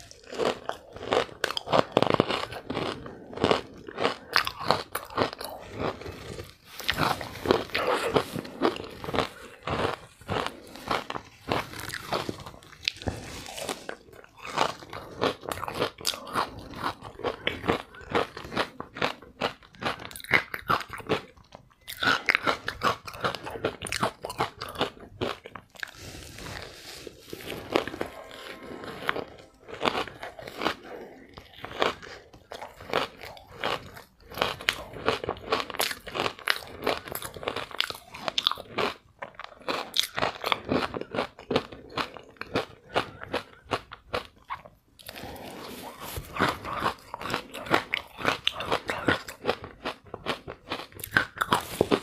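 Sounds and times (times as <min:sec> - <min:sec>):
chewing crunching ice: 0:00.0 - 0:52.0.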